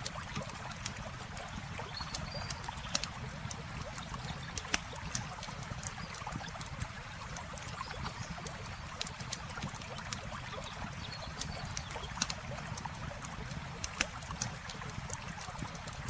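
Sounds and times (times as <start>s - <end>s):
campfire crackling and popping: 0.0s - 16.0s
river water flowing: 0.0s - 16.0s.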